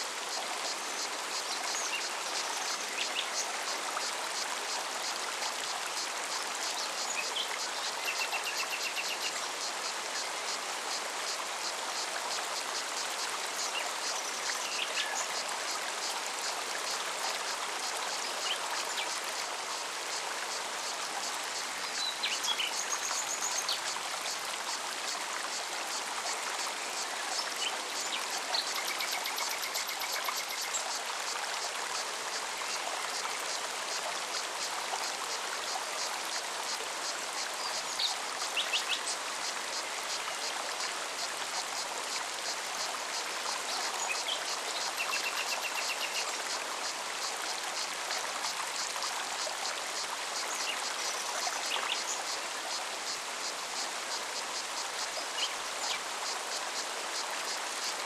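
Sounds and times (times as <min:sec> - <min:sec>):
stream running: 0:00.0 - 0:58.0
cicadas ticking: 0:00.1 - 0:58.0.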